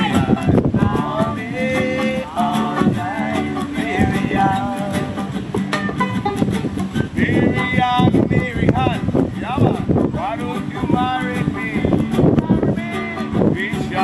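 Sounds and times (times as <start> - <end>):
man singing: 0.0 - 5.5, 7.0 - 14.0
banjo and acoustic guitar strumming: 0.0 - 14.0.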